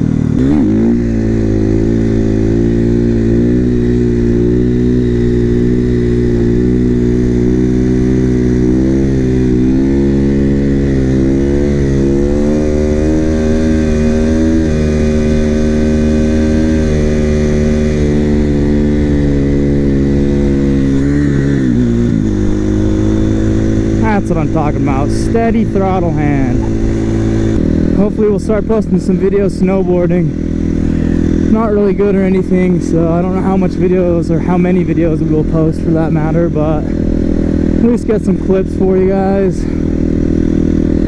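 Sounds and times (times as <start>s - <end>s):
motorcycle engine at steady throttle: 0.0s - 41.0s.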